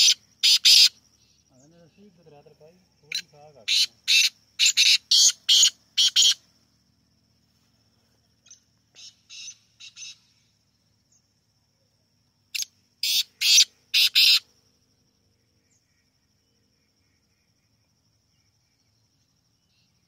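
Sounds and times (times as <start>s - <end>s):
francolin calling: 0.0s - 6.9s, 7.7s - 20.0s.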